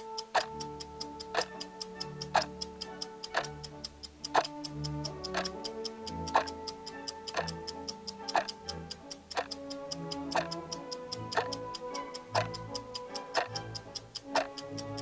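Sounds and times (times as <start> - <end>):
background music with held notes: 0.0 - 15.0
clock ticking: 0.0 - 15.0.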